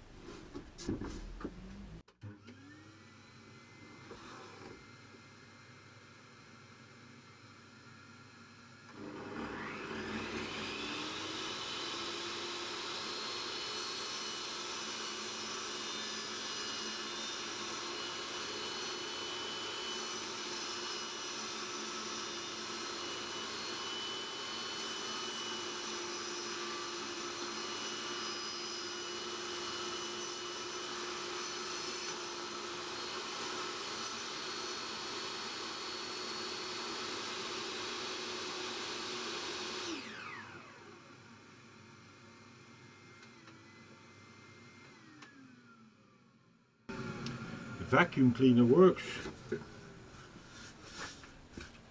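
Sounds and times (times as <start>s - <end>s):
vacuum cleaner motor whine: 1.2s - 51.8s.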